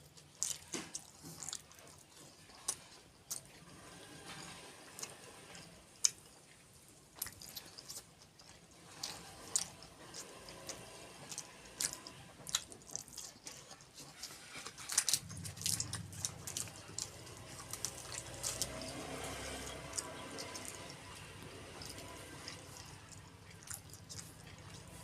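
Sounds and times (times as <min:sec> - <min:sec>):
wet chewing: 0:00.0 - 0:25.0.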